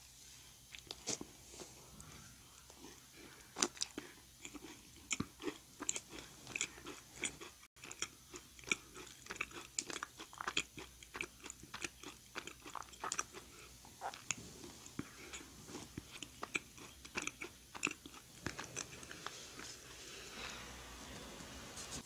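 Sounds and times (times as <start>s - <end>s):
crunchy chewing: 0.7s - 1.3s, 2.0s - 20.0s.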